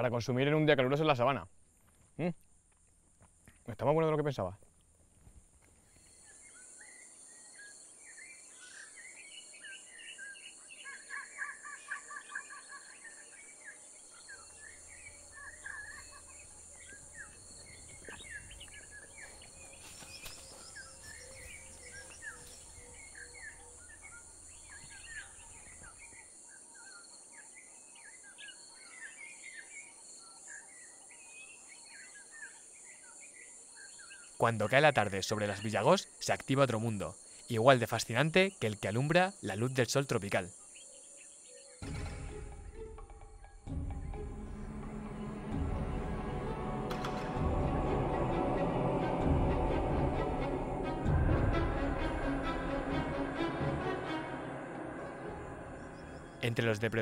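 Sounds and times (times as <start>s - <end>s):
birds chirping and calling: 5.9s - 43.1s, 44.0s - 57.0s.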